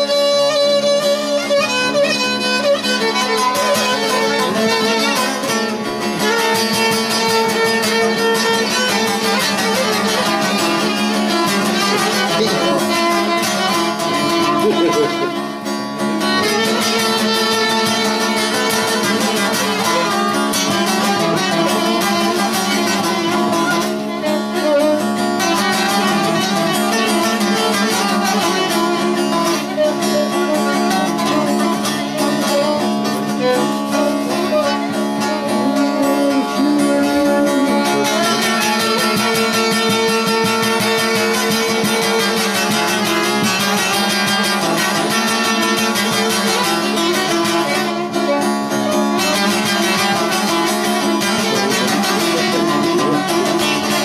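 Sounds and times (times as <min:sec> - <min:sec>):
plucked lute melody with drone: 0:00.0 - 0:54.0.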